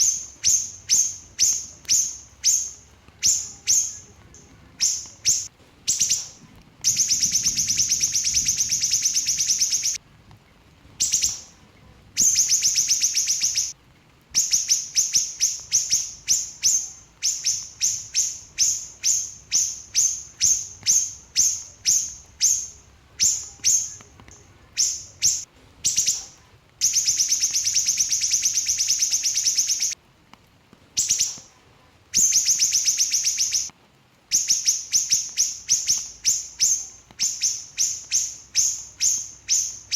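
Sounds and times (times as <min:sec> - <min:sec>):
small bird trilling and chirping: 0:00.0 - 0:10.0, 0:11.0 - 0:11.6, 0:12.2 - 0:13.8, 0:14.4 - 0:30.0, 0:31.0 - 0:31.5, 0:32.1 - 0:33.7, 0:34.3 - 0:39.9.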